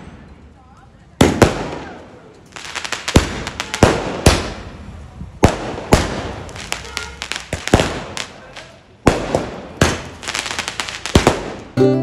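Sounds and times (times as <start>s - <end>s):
fireworks bangs and cracks: 1.2s - 11.8s.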